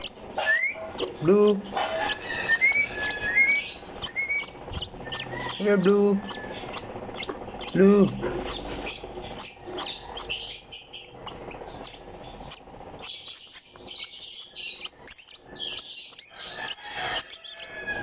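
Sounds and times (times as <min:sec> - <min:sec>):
lovebird chirping: 0:00.0 - 0:18.0.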